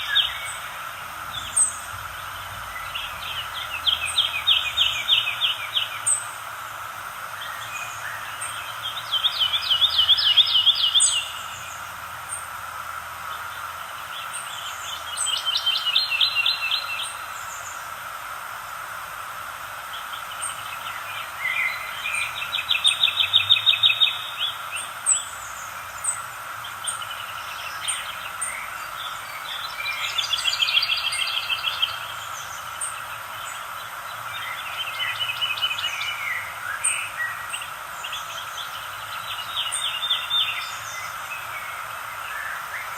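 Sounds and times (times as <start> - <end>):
background hiss: 0.0 - 42.9.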